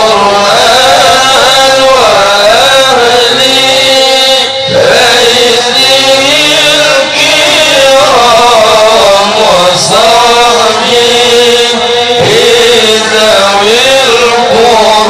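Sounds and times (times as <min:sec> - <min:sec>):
men chanting into microphones: 0:00.0 - 0:15.0.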